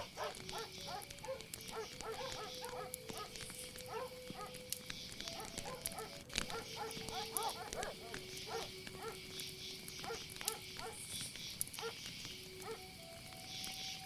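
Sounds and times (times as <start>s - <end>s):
frogs croaking: 0.0s - 14.0s
insect hiss: 0.0s - 14.0s.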